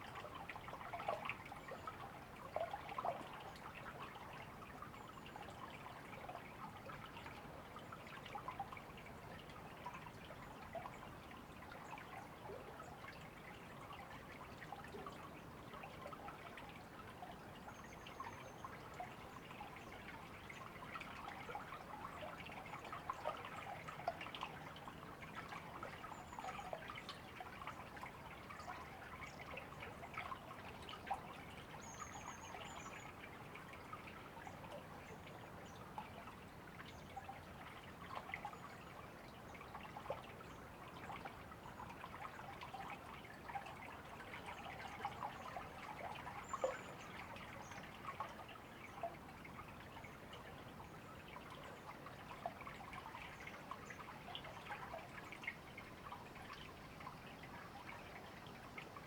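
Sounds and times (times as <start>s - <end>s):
river trickling over stones: 0.0s - 59.0s.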